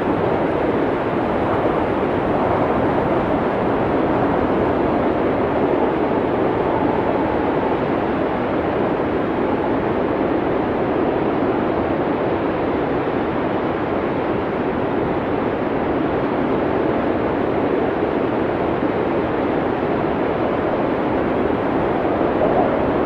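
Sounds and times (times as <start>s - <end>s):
howling blizzard wind: 0.0s - 23.0s.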